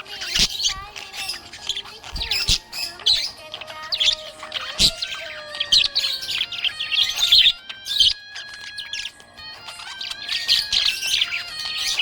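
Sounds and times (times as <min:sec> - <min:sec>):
background music held tone: 0:00.0 - 0:12.0
budgies chirping: 0:00.0 - 0:12.0.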